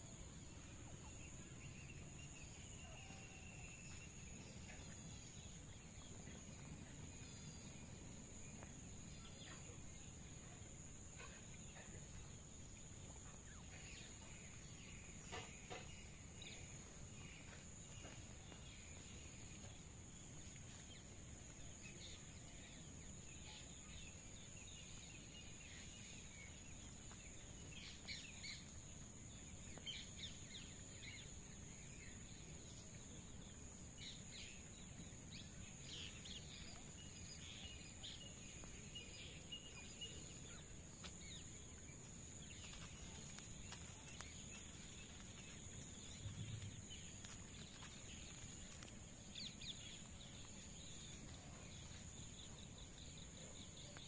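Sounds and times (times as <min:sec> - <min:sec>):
soft bird chirps: 0:00.0 - 0:54.0.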